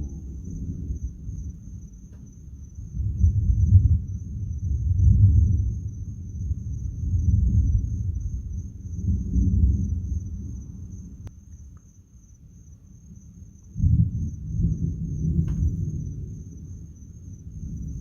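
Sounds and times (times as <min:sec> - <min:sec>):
thunder rumbling: 0:00.0 - 0:11.2, 0:13.7 - 0:18.0
high insect trill: 0:00.0 - 0:18.0.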